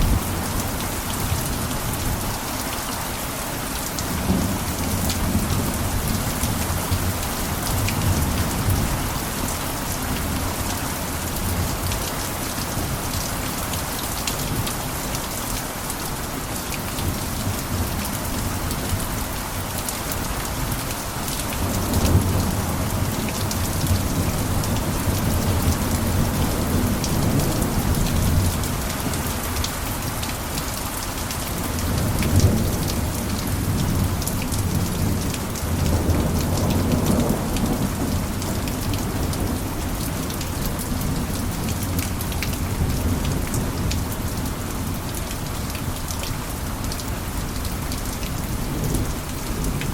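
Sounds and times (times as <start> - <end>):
heavy rain on a roof: 0.0 - 49.9.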